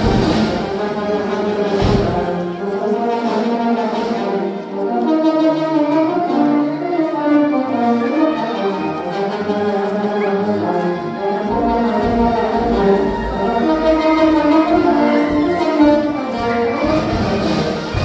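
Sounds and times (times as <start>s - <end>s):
brass music: 0.0s - 18.0s.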